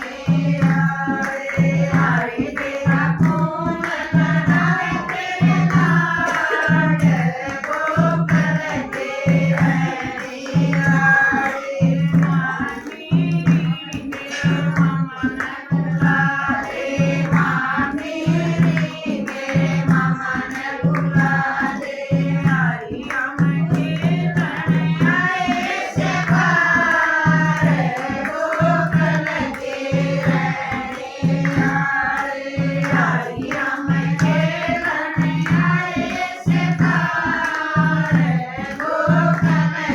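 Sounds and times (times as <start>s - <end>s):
person singing devotional song: 0.0s - 39.9s
steady drum beat: 0.0s - 39.9s.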